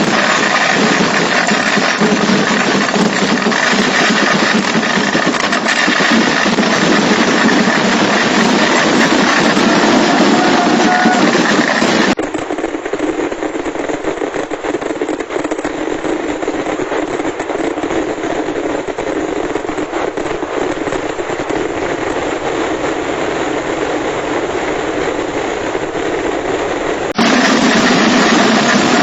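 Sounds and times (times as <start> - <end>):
rapid firecracker bursts: 0.0 - 29.0.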